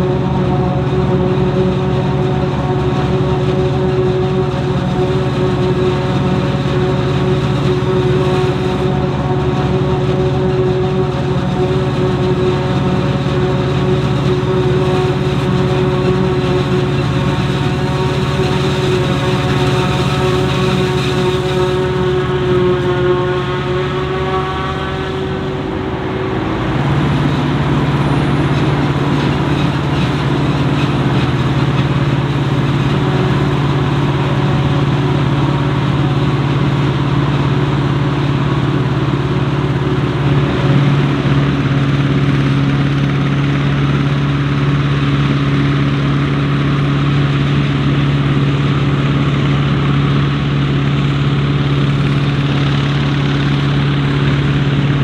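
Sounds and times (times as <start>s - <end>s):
diesel farm machinery running: 0.0s - 55.0s.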